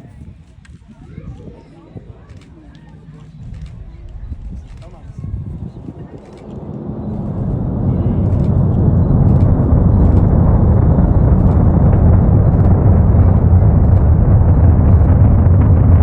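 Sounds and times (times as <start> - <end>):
rocket engines rumbling: 2.3 - 16.0.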